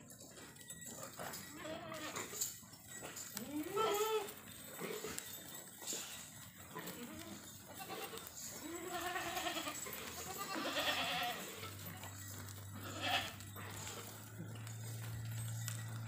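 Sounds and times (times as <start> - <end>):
goats bleating: 1.4 - 2.6, 3.3 - 16.0.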